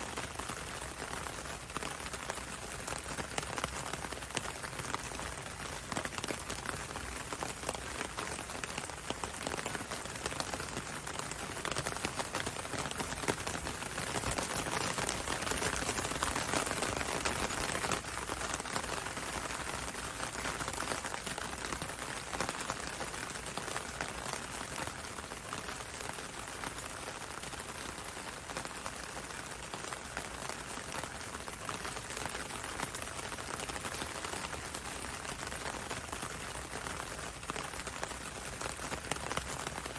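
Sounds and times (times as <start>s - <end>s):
gentle rain on window and road: 0.0s - 39.9s.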